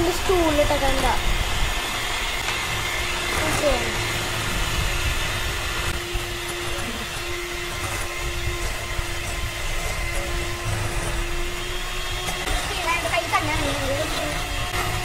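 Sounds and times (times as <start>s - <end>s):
electric hand mixer humming: 0.0s - 15.0s.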